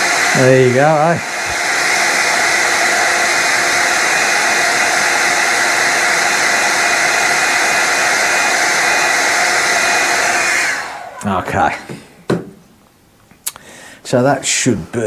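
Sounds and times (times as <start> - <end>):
hot-air blower whirring: 0.0 - 12.7.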